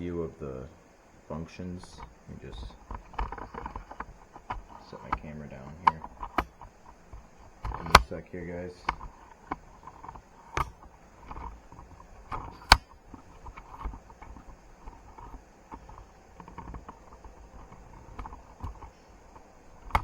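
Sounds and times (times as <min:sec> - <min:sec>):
faint rustling and creaking: 0:00.0 - 0:20.0
tripod clicks and knocks: 0:01.8 - 0:20.0.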